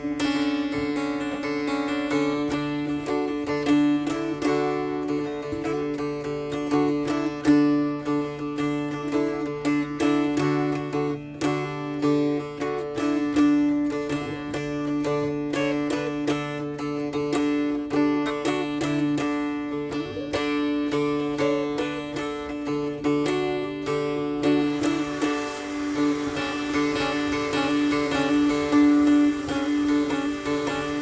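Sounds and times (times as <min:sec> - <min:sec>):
mountain dulcimer strumming: 0:00.0 - 0:31.0.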